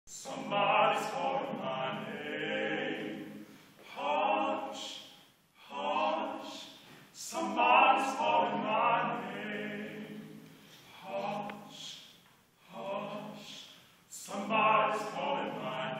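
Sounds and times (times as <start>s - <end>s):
male vocal quartet singing: 0.1s - 15.9s.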